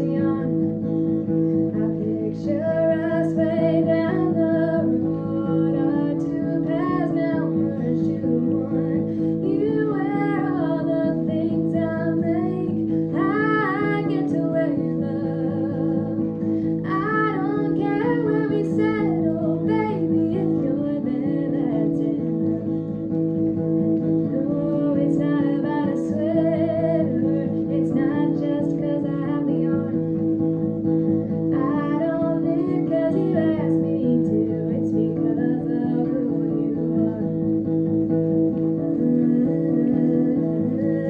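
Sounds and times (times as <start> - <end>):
guitar strummed and plucked: 0.0 - 41.0
person singing: 1.6 - 22.9, 24.2 - 30.1, 31.5 - 37.7, 38.4 - 41.0.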